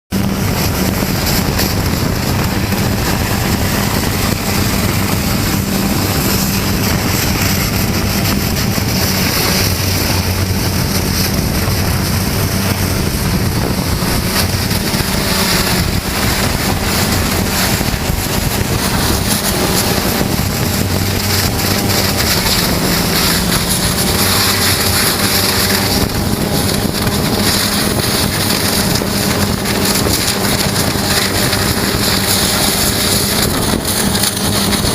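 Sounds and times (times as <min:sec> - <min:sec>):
pump engine hum: 0:00.1 - 0:34.9
water jet blasting concrete: 0:00.1 - 0:34.9.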